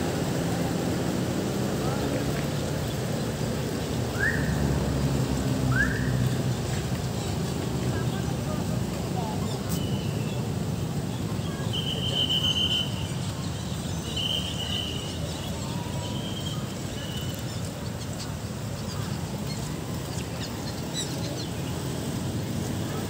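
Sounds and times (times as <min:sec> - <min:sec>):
city background rumble: 0:00.0 - 0:23.0.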